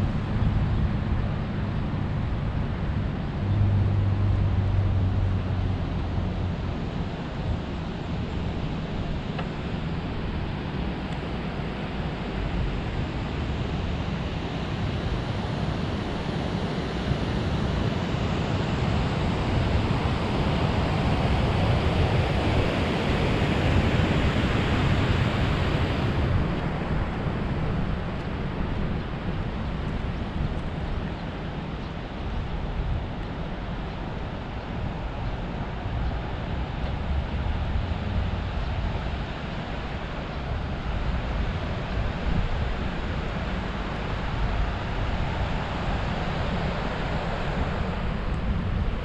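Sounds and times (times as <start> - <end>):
wind buffeting camera microphone: 0.0 - 49.0.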